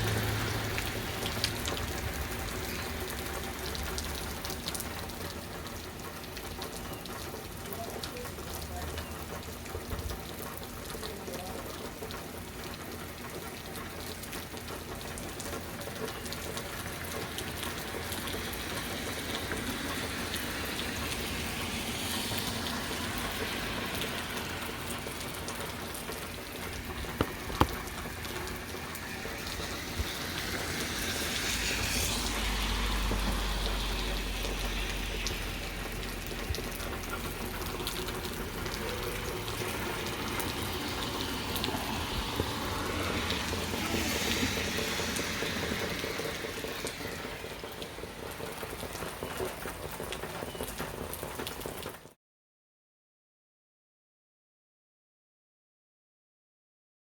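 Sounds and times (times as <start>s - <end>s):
heavy rain falling: 0.0s - 52.1s.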